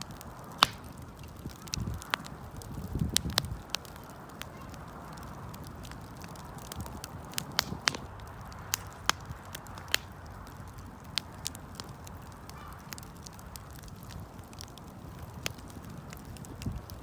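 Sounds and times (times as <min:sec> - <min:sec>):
campfire crackling and popping: 0:00.0 - 0:17.0
low rumble of flames: 0:00.0 - 0:17.0.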